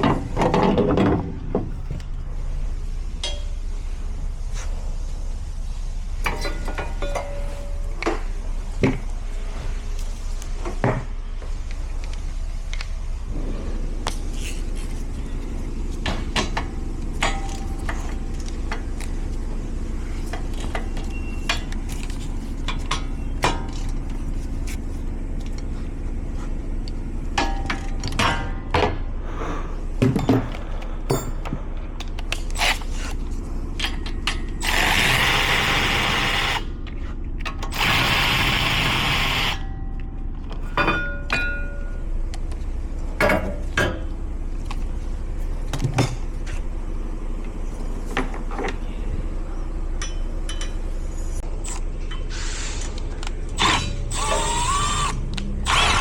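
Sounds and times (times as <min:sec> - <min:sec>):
steady low drone: 0:00.0 - 0:56.0
steady low hum: 0:00.0 - 0:56.0.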